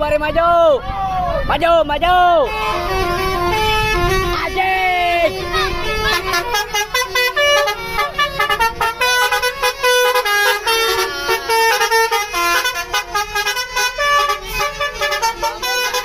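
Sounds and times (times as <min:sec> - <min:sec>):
musical air horn playing melody: 0:02.4 - 0:16.0.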